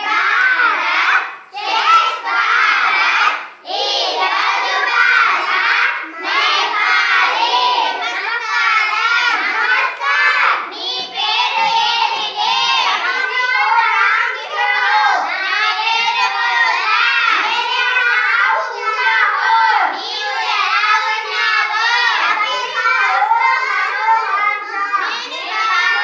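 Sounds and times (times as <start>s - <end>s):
children singing together: 0.0s - 26.0s.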